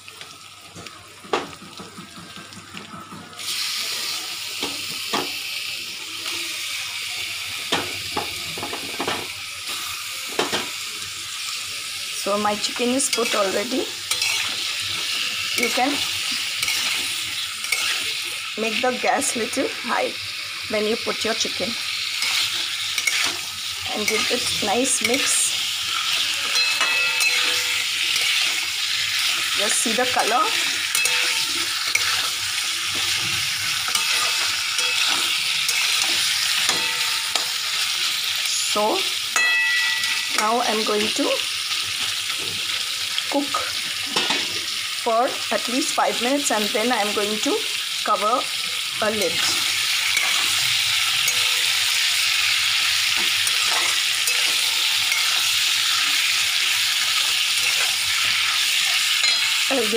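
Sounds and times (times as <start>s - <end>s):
chicken sizzling in a pan: 0.0s - 59.9s.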